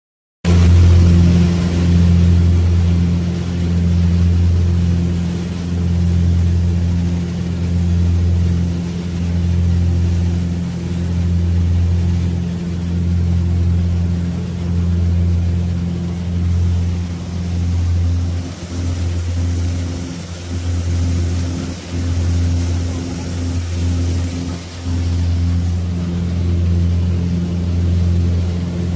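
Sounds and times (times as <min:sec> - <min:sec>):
low machine hum: 0:00.5 - 0:28.9.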